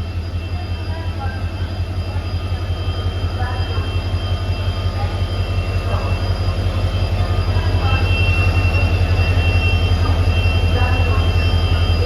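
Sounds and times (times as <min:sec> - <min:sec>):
locomotive throbbing hum and whine: 0:00.0 - 0:12.0.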